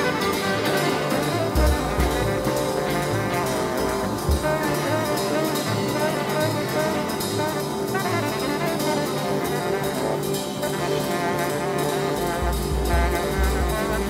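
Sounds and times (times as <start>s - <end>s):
jazz band playing: 0.0s - 14.0s
saxophone melody: 0.0s - 14.0s.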